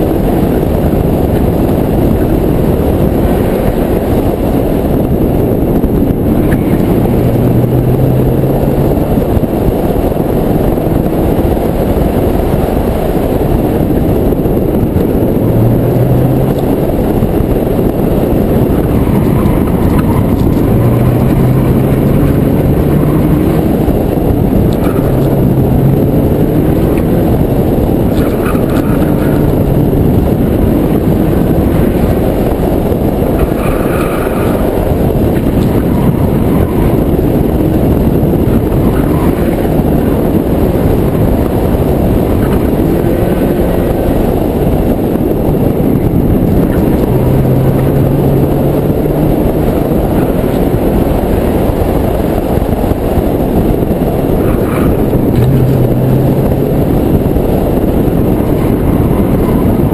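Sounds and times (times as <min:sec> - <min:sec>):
car engine revving: 0:00.0 - 0:59.9
heavy wind rush: 0:00.0 - 0:59.9.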